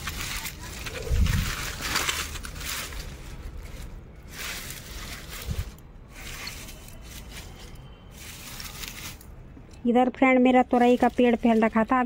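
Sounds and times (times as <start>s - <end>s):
leaves rustling: 0.0s - 9.5s, 10.5s - 12.0s.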